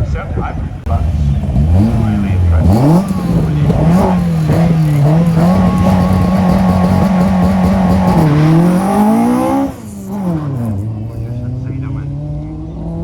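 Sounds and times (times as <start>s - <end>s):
rally car engine revving: 0.2s - 13.0s.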